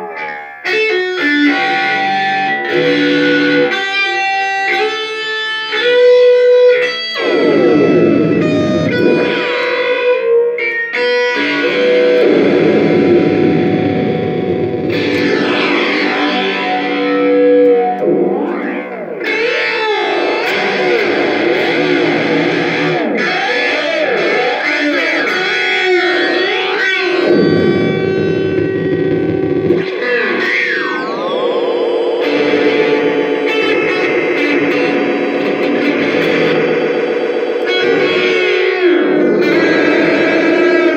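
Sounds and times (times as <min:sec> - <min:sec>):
electric guitar with flanger: 0:00.0 - 0:40.9.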